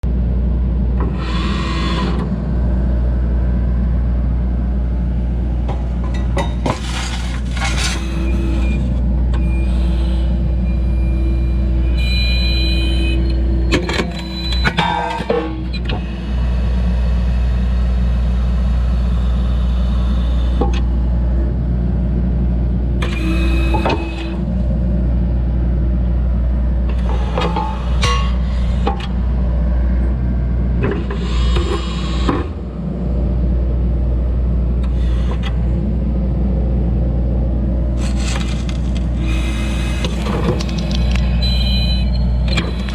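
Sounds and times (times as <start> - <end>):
excavator diesel engine running: 0.1 - 42.9.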